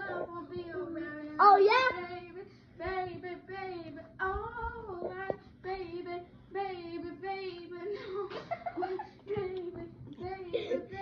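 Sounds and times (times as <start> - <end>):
girl singing unaccompanied: 0.0 - 11.0.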